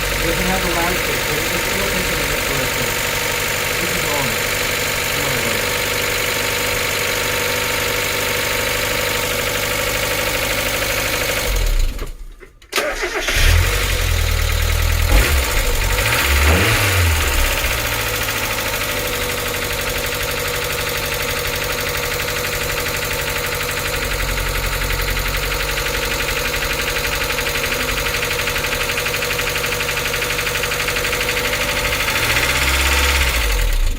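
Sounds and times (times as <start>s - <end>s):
car engine idling with clatter: 0.0s - 33.9s.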